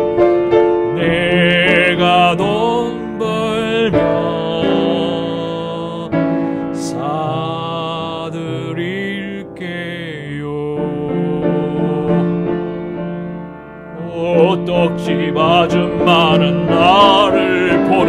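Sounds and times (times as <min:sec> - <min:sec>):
keyboard accompaniment: 0:00.0 - 0:18.0.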